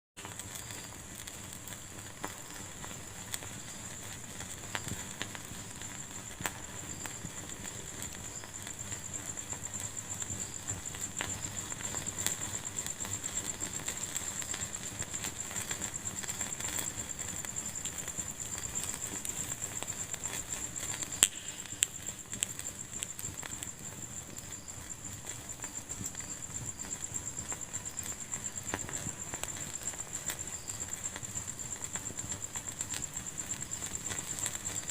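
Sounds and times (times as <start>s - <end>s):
wood fire crackling and popping: 0.2s - 34.9s.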